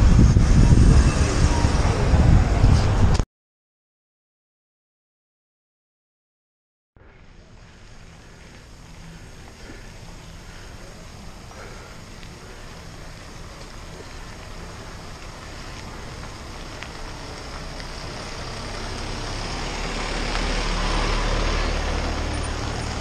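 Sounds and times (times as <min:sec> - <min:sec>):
bicycle riding rush: 0:00.0 - 0:03.2, 0:07.0 - 0:23.0
vehicles driving past: 0:00.0 - 0:03.2, 0:07.0 - 0:23.0.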